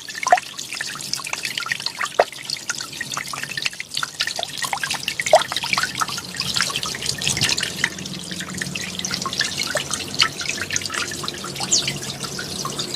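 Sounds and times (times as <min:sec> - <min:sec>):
water splashing and dripping: 0:00.0 - 0:12.9
waterfall pouring into pond: 0:00.0 - 0:12.9.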